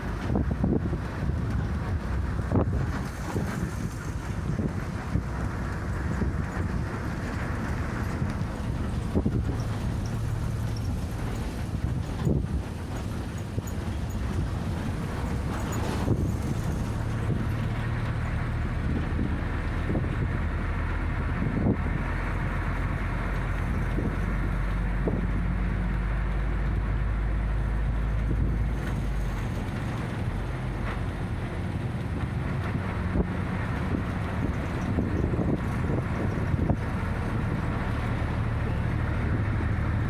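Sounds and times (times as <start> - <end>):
bus engine and road noise: 0.0 - 40.0.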